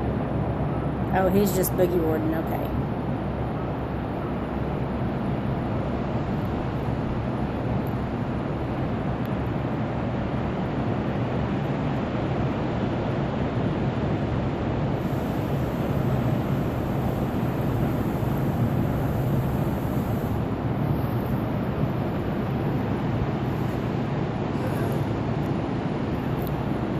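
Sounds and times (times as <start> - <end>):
ocean surf: 0.0 - 26.9
wind on microphone: 0.0 - 26.9.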